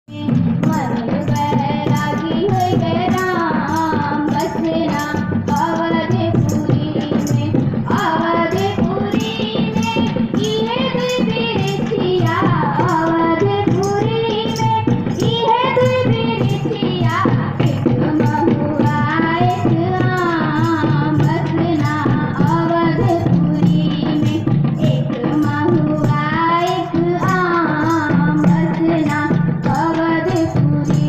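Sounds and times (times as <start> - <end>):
steady percussion beat: 0.1 - 31.0
voices singing a song: 0.1 - 31.0.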